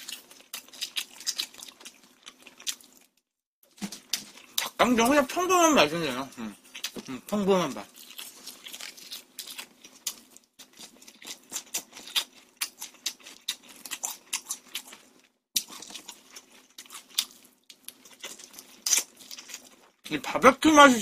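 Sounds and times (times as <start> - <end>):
chewing with mouth clicks: 0.0 - 3.1, 3.9 - 4.8, 6.3 - 20.1.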